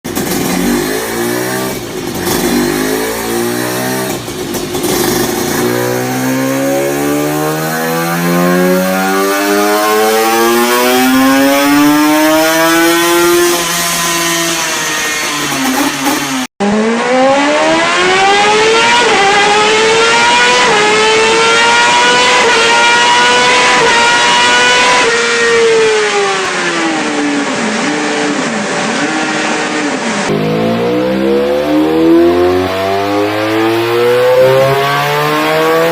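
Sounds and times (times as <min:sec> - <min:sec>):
superbike engine revving: 0:00.1 - 0:35.9.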